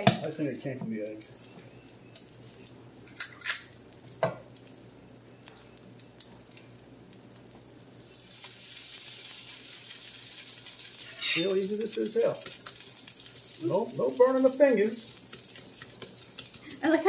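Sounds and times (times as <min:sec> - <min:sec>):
pancakes sizzling on a griddle: 0:00.0 - 0:17.0.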